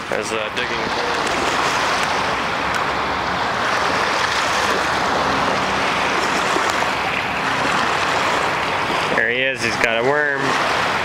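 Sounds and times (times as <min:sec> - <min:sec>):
small lake waves: 0:00.0 - 0:11.0
wind: 0:00.0 - 0:11.0.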